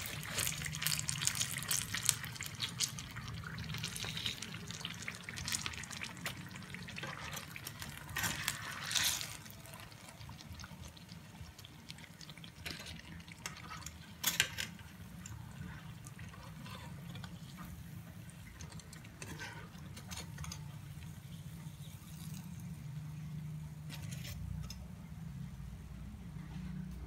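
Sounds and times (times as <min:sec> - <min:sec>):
fritters sizzling in oil: 0:00.0 - 0:25.4.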